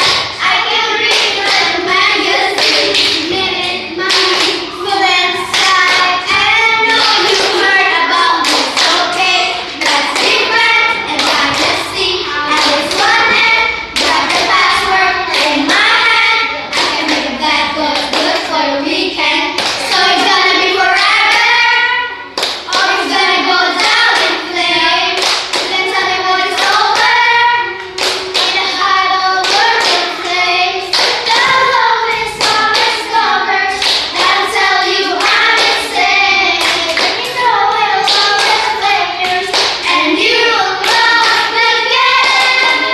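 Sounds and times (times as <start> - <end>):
children singing: 0.0 - 42.9
rhythmic hand clapping: 0.0 - 42.9.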